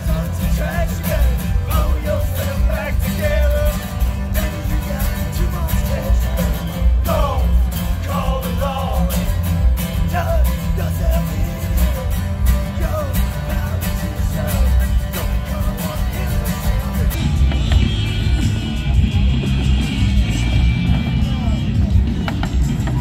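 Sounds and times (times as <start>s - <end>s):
rock music with singing: 0.0s - 23.0s.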